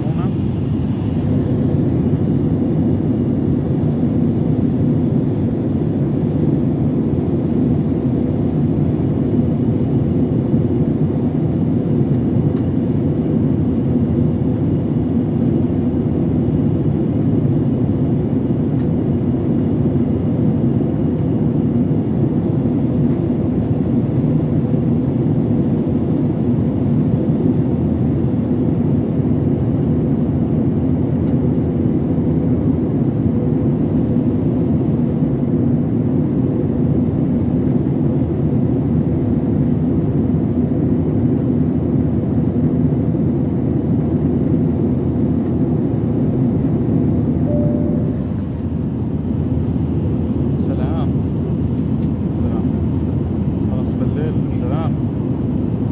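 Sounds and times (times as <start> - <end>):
airliner cabin engine drone: 0.0 - 55.9.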